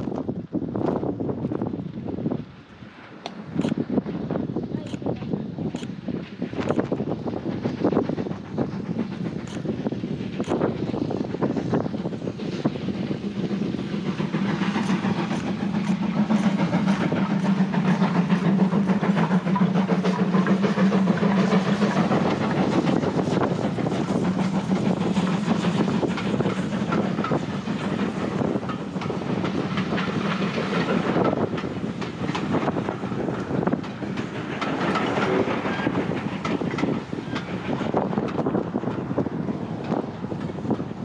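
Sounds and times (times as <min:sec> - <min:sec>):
clickety-clack of wheels on rail joints: 0:00.0 - 0:41.0
steam train rumbling past: 0:00.0 - 0:41.0.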